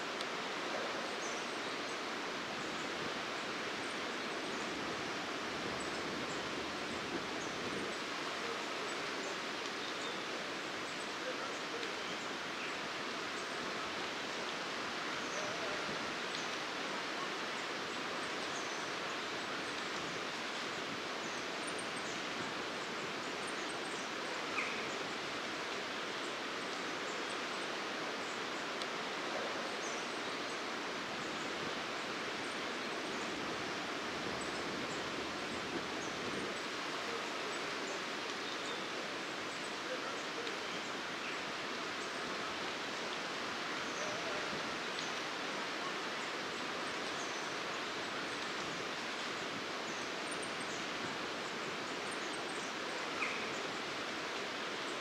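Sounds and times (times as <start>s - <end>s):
outdoor background hiss: 0.0s - 55.0s.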